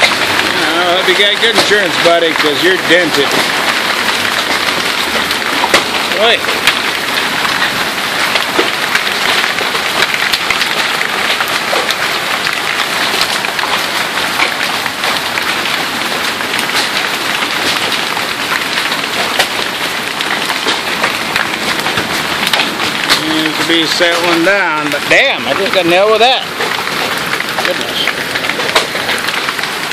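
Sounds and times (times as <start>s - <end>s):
hail and rain pelting: 0.0s - 29.9s
hailstones hitting hard surfaces: 0.0s - 29.9s.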